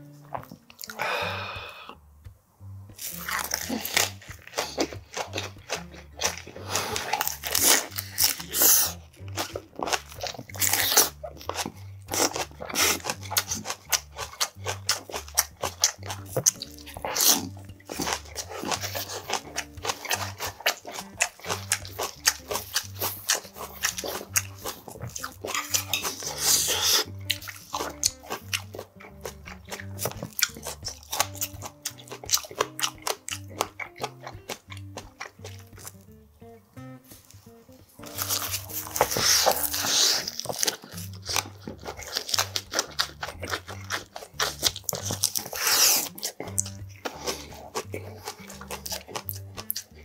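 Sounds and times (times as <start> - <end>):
background music with bass line: 0.0 - 50.0
crunchy chewing: 0.0 - 50.0.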